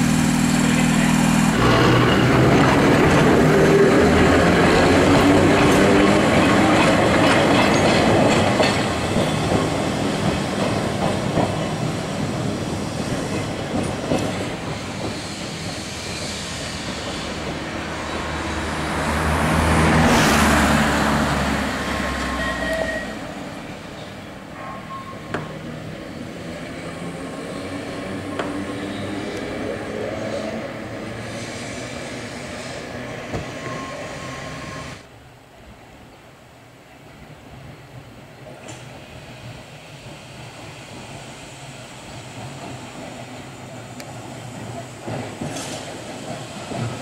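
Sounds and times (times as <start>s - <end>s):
tram wheels rumbling on rails: 0.0s - 35.1s, 36.9s - 47.0s.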